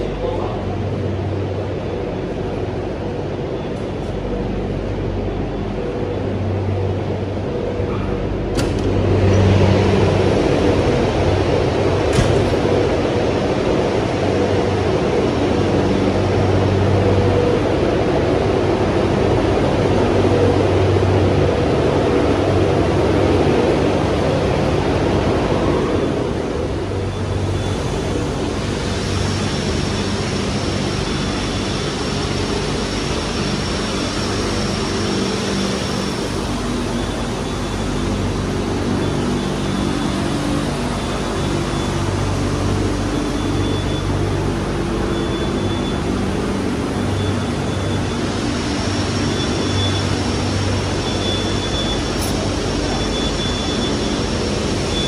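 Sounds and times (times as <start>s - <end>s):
machinery hum: 0.0s - 55.0s.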